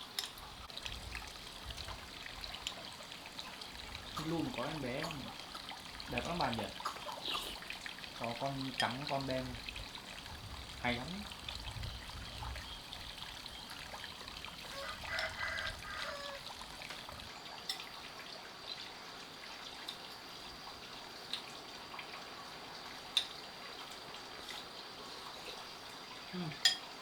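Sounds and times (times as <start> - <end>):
trickle of running water: 0.0 - 27.0.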